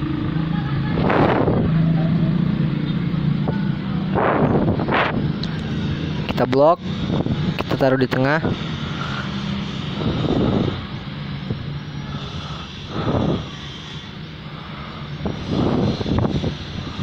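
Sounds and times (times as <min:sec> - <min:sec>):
low motor hum: 0:00.0 - 0:17.0
rushing noise: 0:00.0 - 0:17.0.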